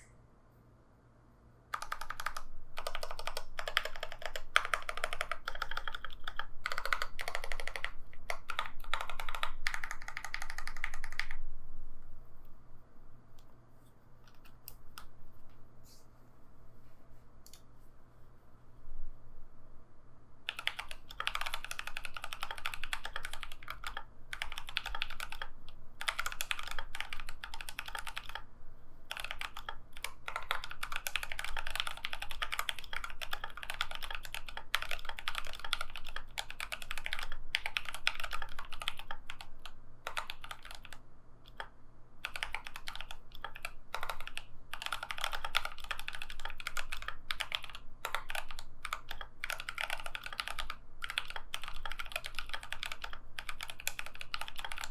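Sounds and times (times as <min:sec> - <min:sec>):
mechanical keyboard typing: 0:01.7 - 0:11.4, 0:14.2 - 0:15.1, 0:20.5 - 0:28.5, 0:29.1 - 0:54.9.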